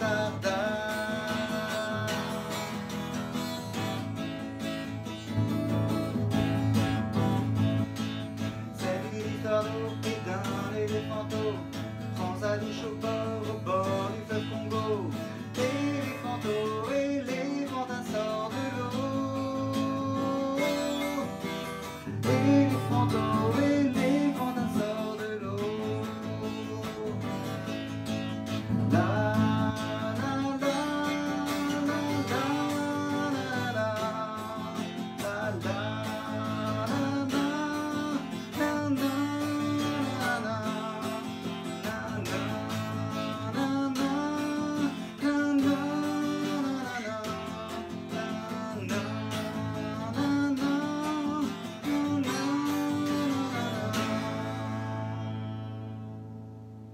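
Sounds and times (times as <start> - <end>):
man singing: 0.0 - 56.0
acoustic guitar strumming: 0.0 - 56.9.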